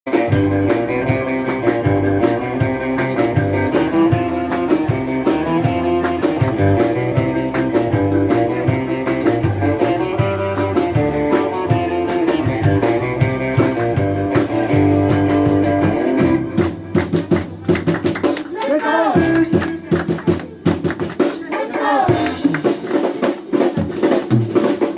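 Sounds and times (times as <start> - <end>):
bass: 0.0 - 24.9
guitar: 0.0 - 24.9
rock music: 0.0 - 24.9
steady drum beat: 0.1 - 24.9.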